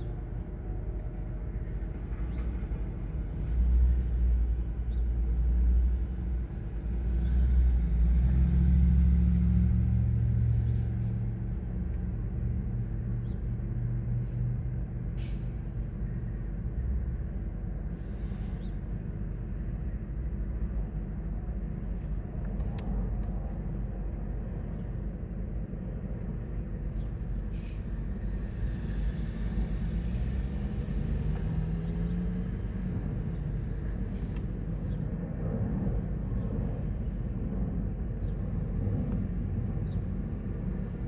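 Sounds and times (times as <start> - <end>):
low engine rumble: 0.0 - 41.0.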